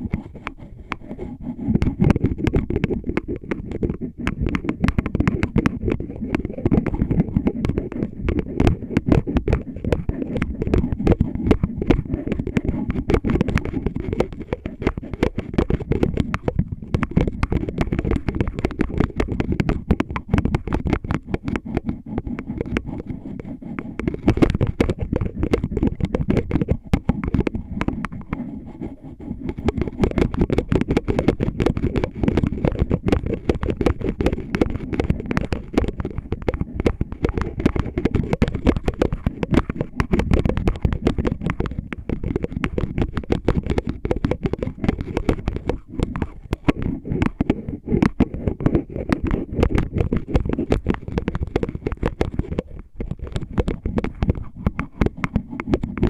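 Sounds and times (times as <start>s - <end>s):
scratching and tapping on bottle: 0.0s - 56.0s.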